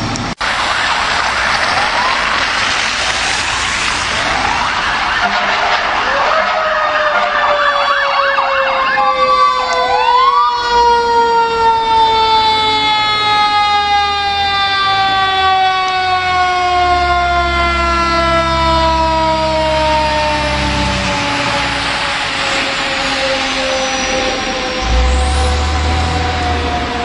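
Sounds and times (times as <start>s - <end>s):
heavy truck engine rumbling: 0.0s - 27.0s
fire truck siren yelp: 0.4s - 27.0s
siren wail: 0.4s - 27.0s.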